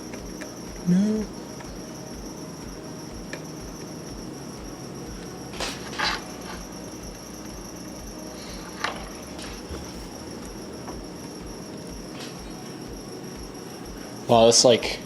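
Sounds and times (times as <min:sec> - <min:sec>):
low hum: 0:00.0 - 0:14.3
high-pitched whine: 0:00.0 - 0:15.0.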